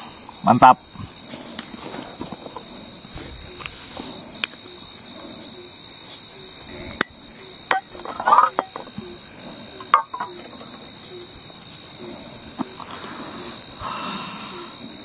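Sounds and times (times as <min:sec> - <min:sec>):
night insects chirring: 0:00.0 - 0:15.0.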